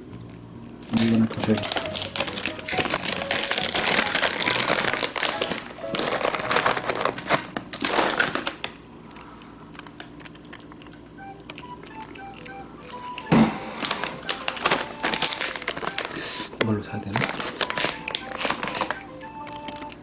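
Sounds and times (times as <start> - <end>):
soft background music: 0.0 - 8.6, 10.3 - 20.0
plastic bag crinkling: 0.8 - 11.0, 11.6 - 20.0.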